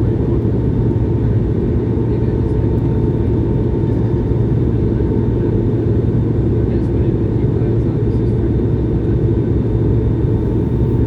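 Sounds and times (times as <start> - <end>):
airplane cabin rumble: 0.0 - 11.0
faint engine whine: 0.0 - 11.0.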